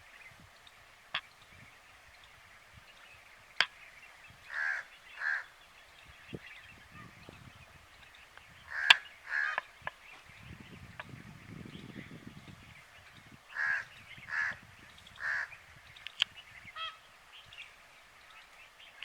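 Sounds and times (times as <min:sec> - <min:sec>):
bird harsh calls: 0:00.0 - 0:19.0.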